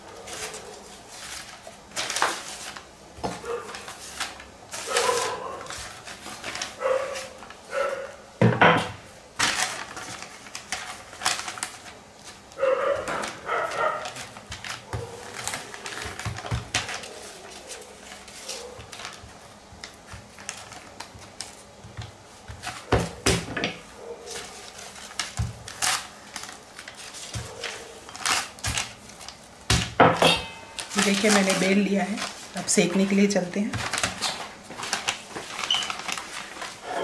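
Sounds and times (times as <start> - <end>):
paper crinkling and rustling: 0.0 - 8.3, 8.9 - 30.0, 30.7 - 37.0.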